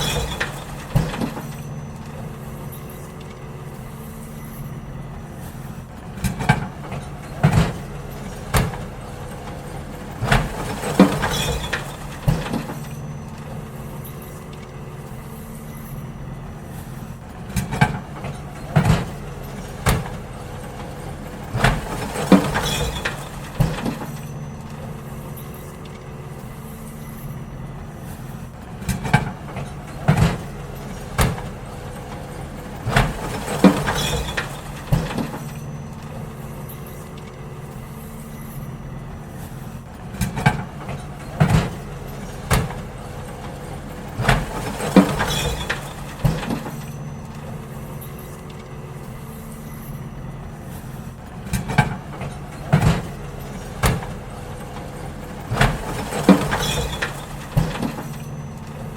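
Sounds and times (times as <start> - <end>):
bins banging and clattering: 0.0 - 58.9
garbage truck idling: 0.0 - 58.9.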